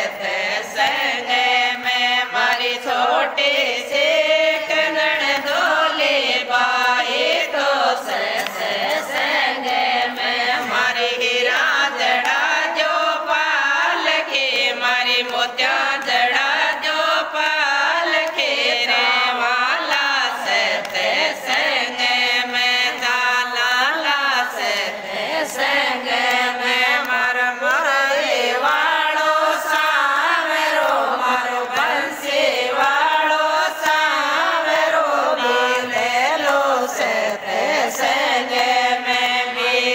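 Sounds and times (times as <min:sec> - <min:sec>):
hand clapping: 0:00.0 - 0:39.9
women singing together: 0:00.0 - 0:39.9.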